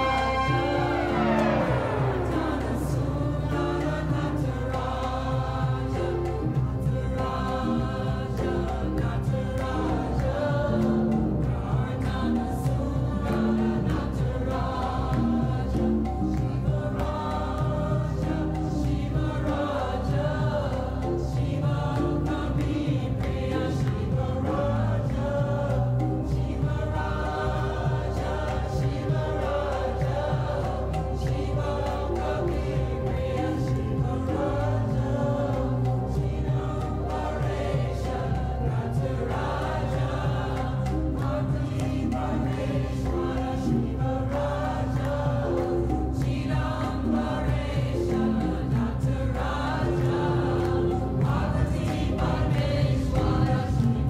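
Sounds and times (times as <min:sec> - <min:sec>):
choir chanting: 0:00.0 - 0:54.0
low drone: 0:00.0 - 0:54.0.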